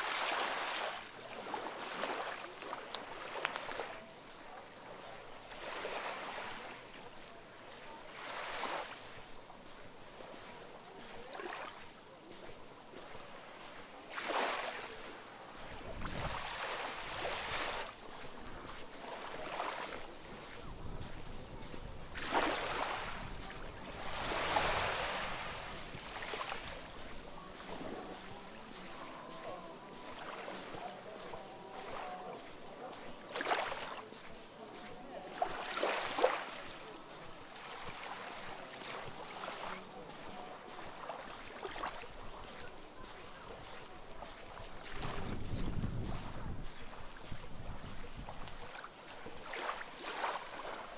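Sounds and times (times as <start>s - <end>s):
small sea waves washing: 0.0s - 50.9s.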